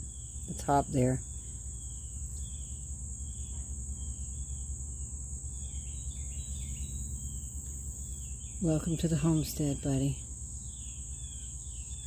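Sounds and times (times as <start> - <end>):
insects trilling: 0.0 - 12.0
low steady hum: 0.0 - 12.0.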